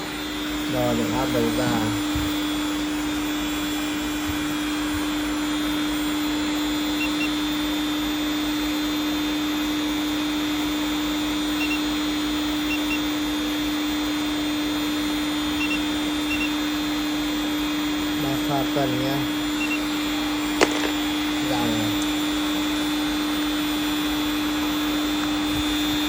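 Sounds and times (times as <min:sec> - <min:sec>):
electric motor humming: 0:00.0 - 0:26.0.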